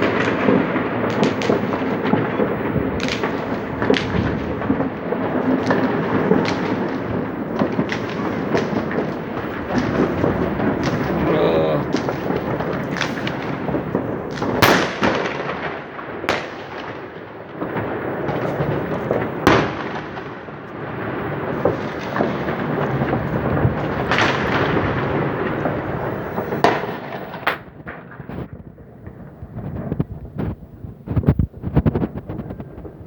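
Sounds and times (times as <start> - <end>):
fireworks bangs: 0.0 - 33.0
fireworks crackling: 0.0 - 33.0.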